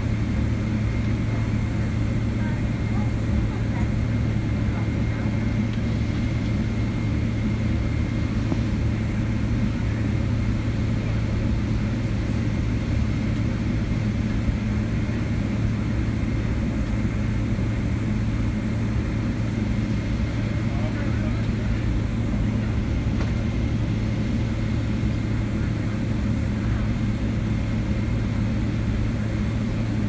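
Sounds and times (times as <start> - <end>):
jet engines droning in cabin: 0.0 - 30.0.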